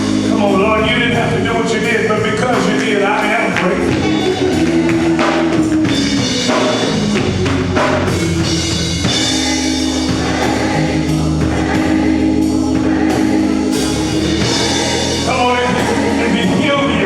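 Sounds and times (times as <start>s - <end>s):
drum kit: 0.0s - 17.0s
held organ chords: 0.0s - 17.0s
people singing: 0.0s - 17.0s.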